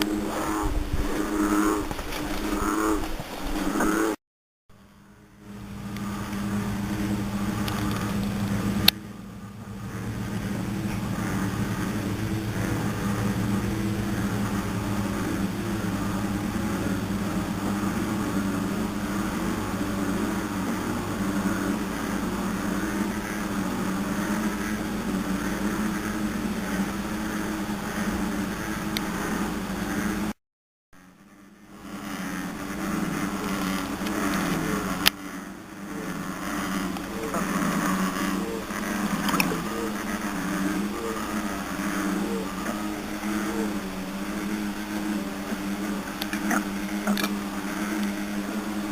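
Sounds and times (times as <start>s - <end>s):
frogs calling in chorus: 0.0s - 4.2s, 5.0s - 30.3s, 31.0s - 48.9s.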